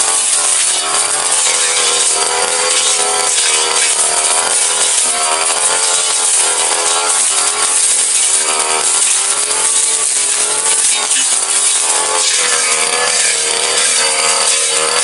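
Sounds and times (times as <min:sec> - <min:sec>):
blade cutting undergrowth: 0:00.0 - 0:15.0
brush cutter engine running hard: 0:00.0 - 0:15.0.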